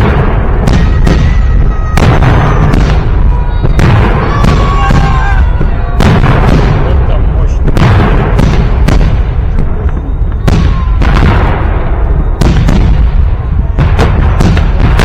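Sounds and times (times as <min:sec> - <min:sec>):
falling firework whistle: 0:00.0 - 0:06.9, 0:08.3 - 0:15.0
rumble of booms: 0:00.0 - 0:15.0.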